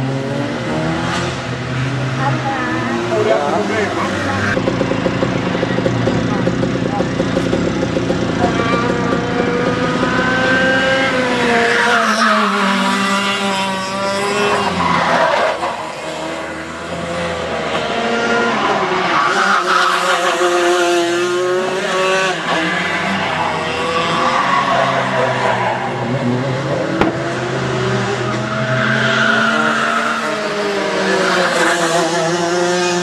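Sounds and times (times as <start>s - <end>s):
go-kart engines racing: 0.0s - 33.0s.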